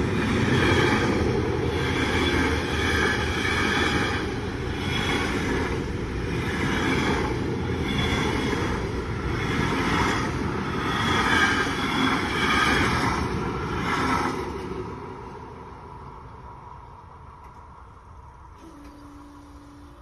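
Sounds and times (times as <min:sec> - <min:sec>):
train wheels rumbling and clattering: 0:00.0 - 0:18.5.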